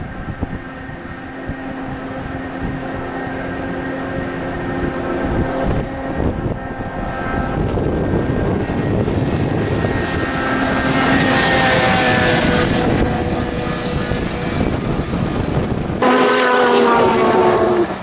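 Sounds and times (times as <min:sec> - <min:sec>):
snowmobile engines running hard: 0:00.0 - 0:18.0.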